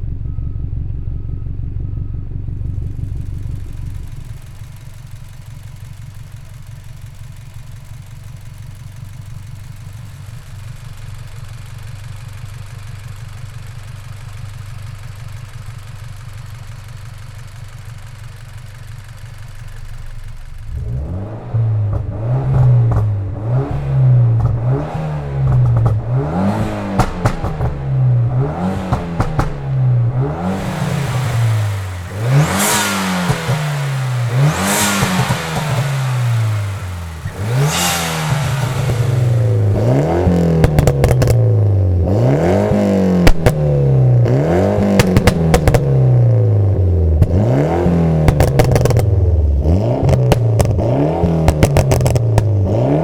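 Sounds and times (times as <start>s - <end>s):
car engine revving: 2.5s - 53.0s
exhaust crackles and pops: 2.5s - 53.0s.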